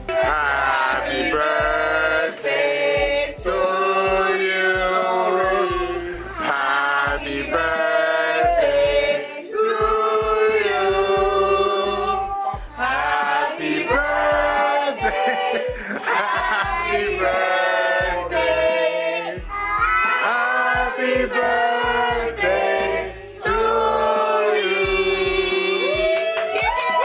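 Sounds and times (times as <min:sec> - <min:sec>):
group singing without instruments: 0:00.0 - 0:26.2.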